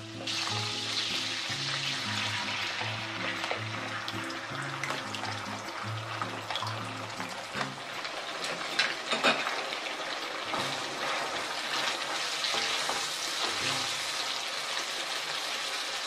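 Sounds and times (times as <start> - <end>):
sauce frying in a wok: 0.0 - 16.0.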